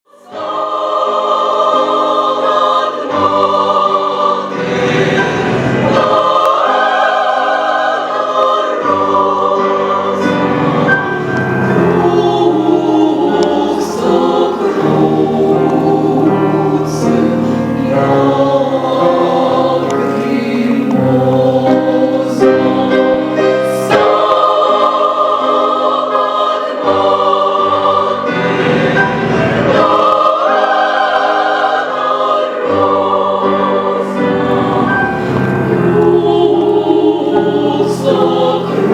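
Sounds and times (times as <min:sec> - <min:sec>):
women's choir singing: 0:00.1 - 0:38.9.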